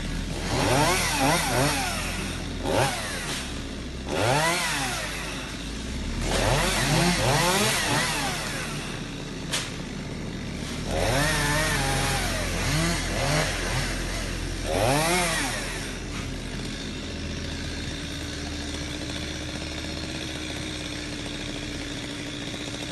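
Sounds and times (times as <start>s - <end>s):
chainsaw engine revving and idling: 0.0s - 22.9s.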